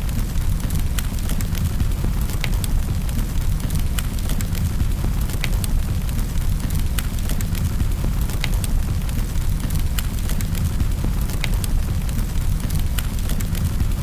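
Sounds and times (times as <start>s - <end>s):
crackles and pops of fire: 0.0s - 14.0s
wood fire burning: 0.0s - 14.0s.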